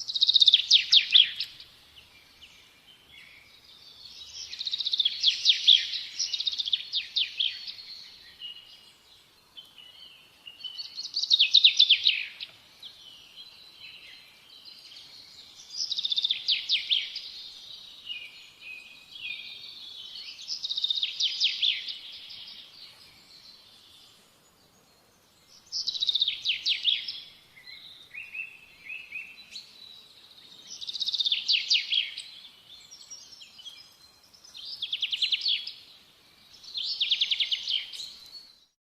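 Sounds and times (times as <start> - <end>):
soft bird twittering: 0.0 - 38.8.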